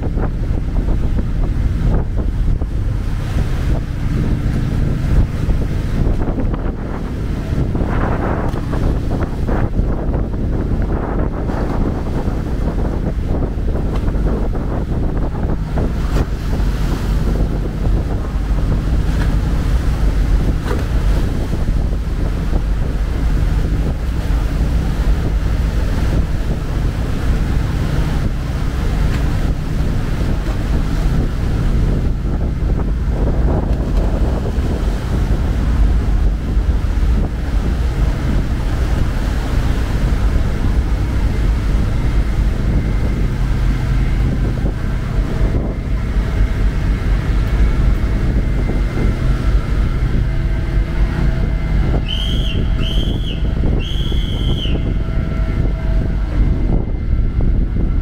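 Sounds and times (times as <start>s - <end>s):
diesel engines droning: 0.0s - 58.0s
wind buffeting microphone: 0.0s - 58.0s.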